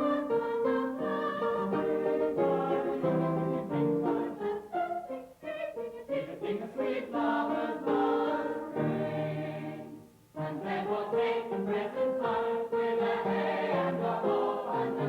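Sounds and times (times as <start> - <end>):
group singing in harmony: 0.0 - 15.0.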